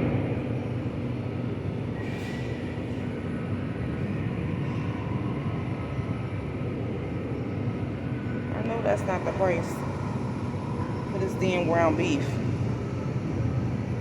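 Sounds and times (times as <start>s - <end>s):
low supermarket background rumble: 0.0s - 14.0s.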